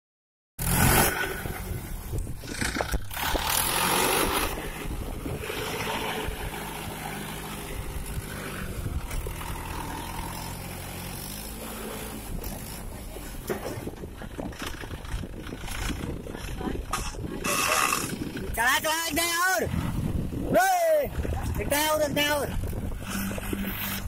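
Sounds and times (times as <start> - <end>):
tractor diesel engine running: 0.6 - 24.0.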